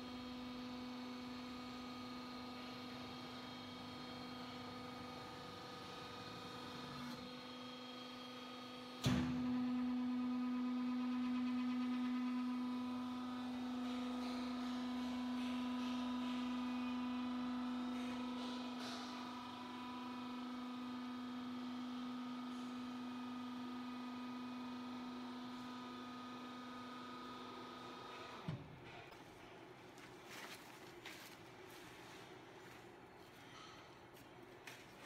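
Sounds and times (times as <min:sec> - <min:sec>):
hydraulic power unit humming: 0:00.0 - 0:29.3.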